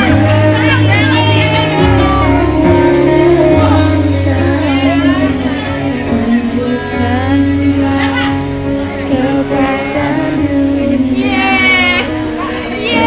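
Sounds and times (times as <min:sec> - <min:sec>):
sung melody: 0:00.0 - 0:13.0
sustained bass notes: 0:00.0 - 0:13.0.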